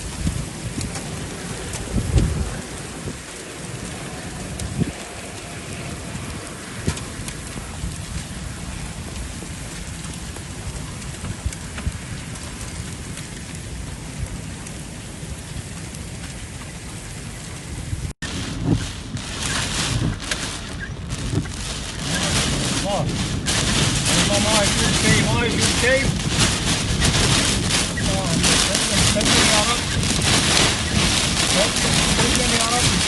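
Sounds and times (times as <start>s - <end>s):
heavy rain falling: 0.0s - 33.0s
low rumble: 0.0s - 33.0s
raindrops tapping surfaces: 0.0s - 33.0s.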